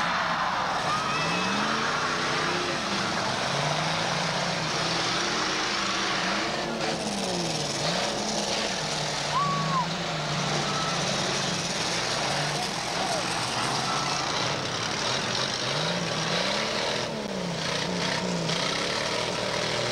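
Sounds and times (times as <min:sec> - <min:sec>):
car engines revving: 0:00.0 - 0:19.9.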